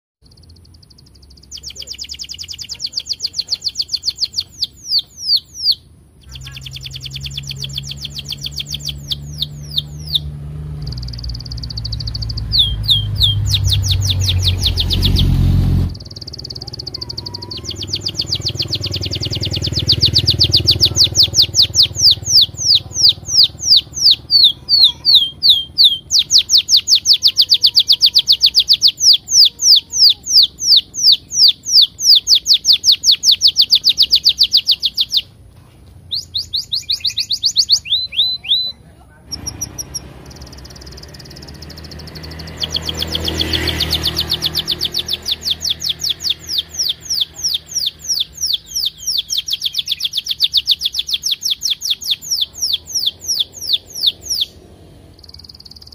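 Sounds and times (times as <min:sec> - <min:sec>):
canary singing: 0:00.2 - 0:55.9.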